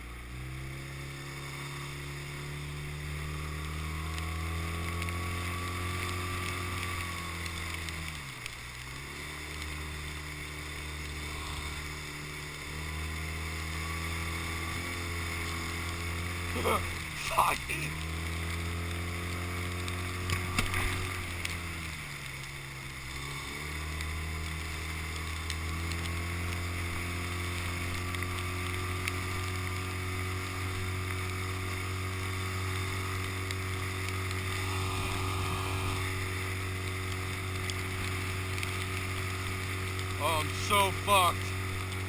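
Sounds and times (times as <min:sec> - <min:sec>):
small outboard motor running: 0:00.0 - 0:42.0.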